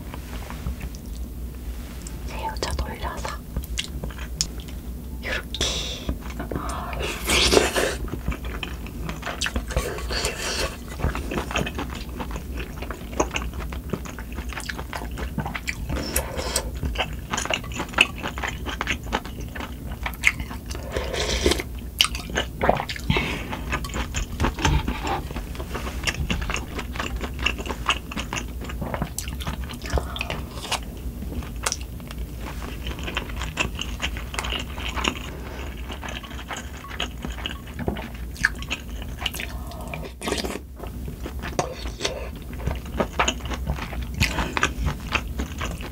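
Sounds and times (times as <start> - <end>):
low hum of wind and rain: 0.0 - 45.9
chewing and slurping: 6.1 - 45.9.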